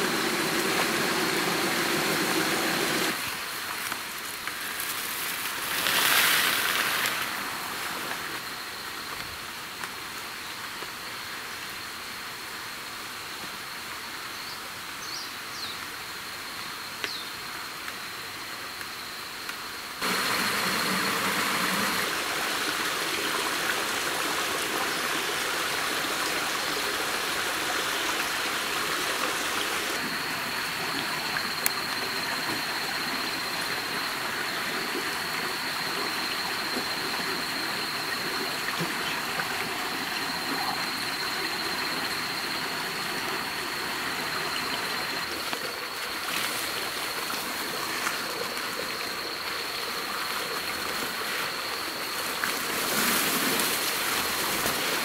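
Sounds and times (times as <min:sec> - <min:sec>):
rushing stream water: 0:00.0 - 0:11.2, 0:20.0 - 0:55.0.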